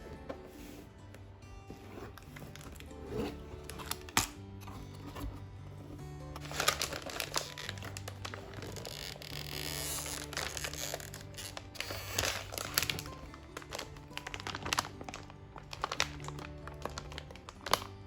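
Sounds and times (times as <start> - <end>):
crinkling handling noises: 0.0 - 18.0.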